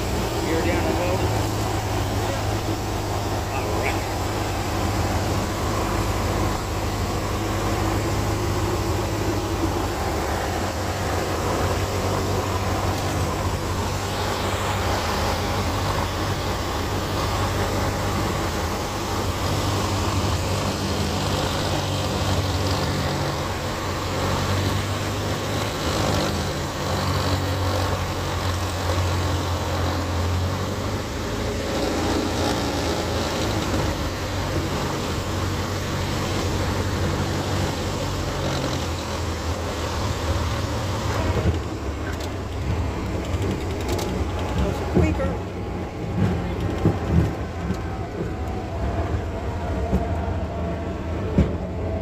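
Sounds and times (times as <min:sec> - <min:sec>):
aircraft engine and propeller droning: 0:00.0 - 0:52.0
airflow noise: 0:00.0 - 0:52.0.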